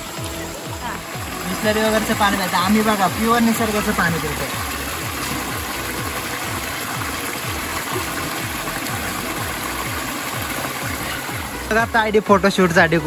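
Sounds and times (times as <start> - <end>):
stream water splashing down cascade: 0.0 - 13.0.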